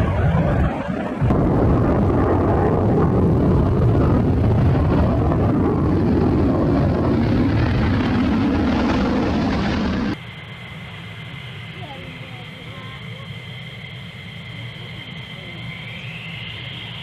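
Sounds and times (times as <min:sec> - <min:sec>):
jet engine roar overhead: 0:00.0 - 0:17.0.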